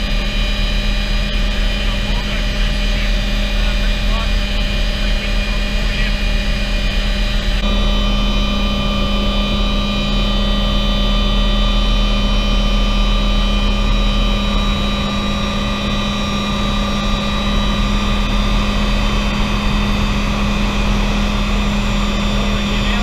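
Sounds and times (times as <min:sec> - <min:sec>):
helicopter turbine and rotor drone: 0:00.0 - 0:23.0.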